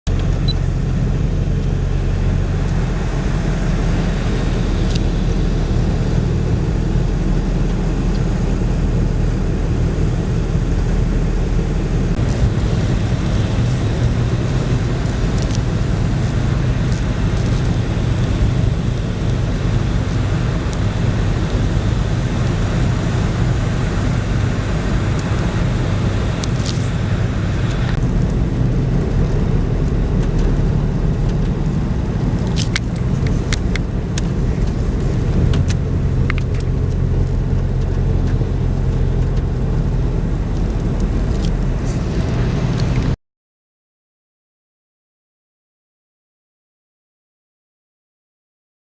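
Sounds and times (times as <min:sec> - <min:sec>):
car road and engine rumble: 0:00.0 - 0:43.2.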